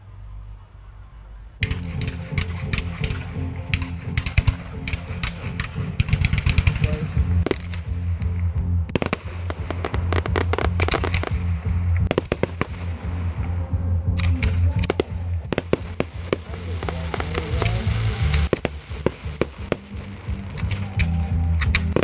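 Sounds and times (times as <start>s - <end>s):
fireworks banging and crackling: 1.6s - 13.6s, 14.2s - 22.0s.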